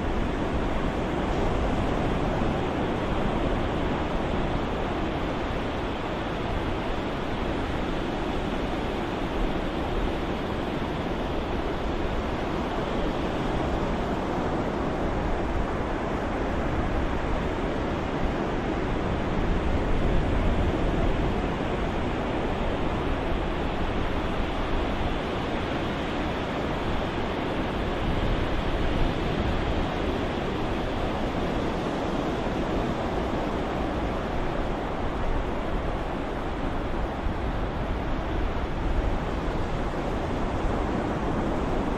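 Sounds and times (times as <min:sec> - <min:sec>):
ocean surf rushing: 0:00.0 - 0:41.9.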